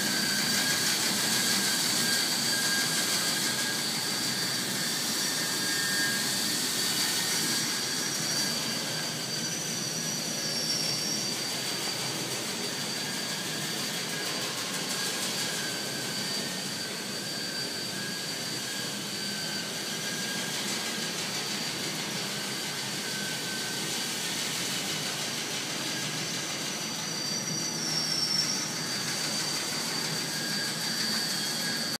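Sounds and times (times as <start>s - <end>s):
high-pitched whine: 0.0s - 32.0s
machine whirring hum: 0.0s - 32.0s.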